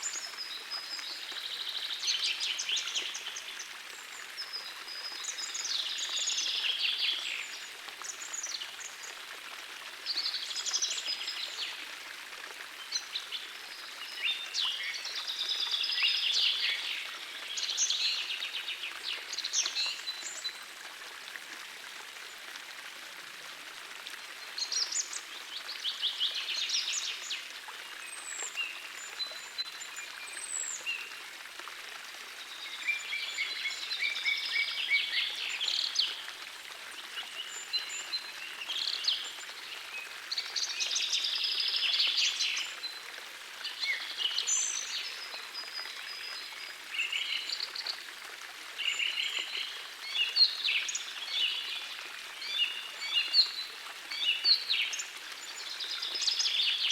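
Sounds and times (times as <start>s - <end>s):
forest stream rushing: 0.0s - 56.9s.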